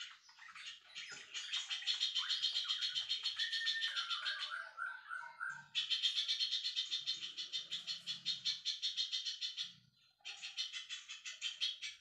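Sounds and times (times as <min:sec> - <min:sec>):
songbird chirping trill: 0:00.0 - 0:12.0.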